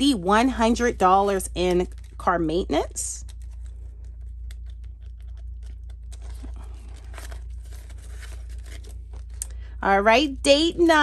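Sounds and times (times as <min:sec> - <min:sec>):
steady low hum: 0:00.0 - 0:11.0
paper banknotes rustling: 0:00.6 - 0:09.6
plastic envelope crinkling: 0:00.6 - 0:09.7.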